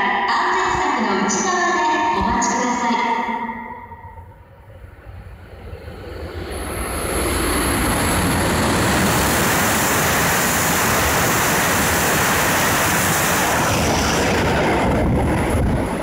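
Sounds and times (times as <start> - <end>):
high-speed train rushing past: 0.0 - 16.0.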